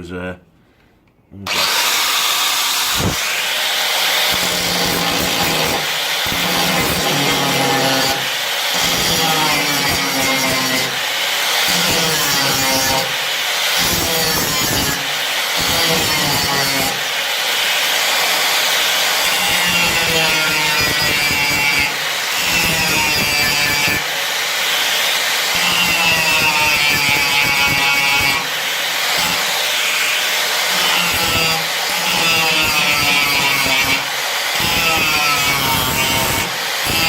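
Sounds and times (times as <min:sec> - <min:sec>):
angle grinder grinding metal: 0:01.5 - 0:37.0.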